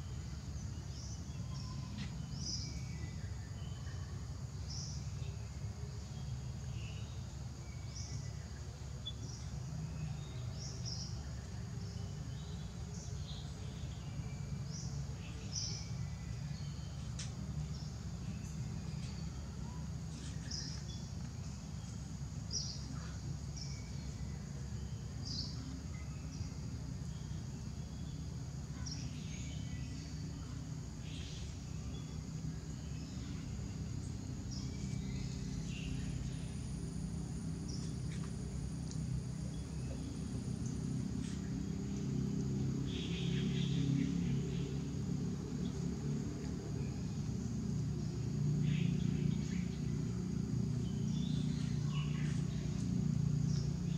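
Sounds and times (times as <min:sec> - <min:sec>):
high insect trill: 0:00.0 - 0:53.9
low steady rumble: 0:00.0 - 0:53.9.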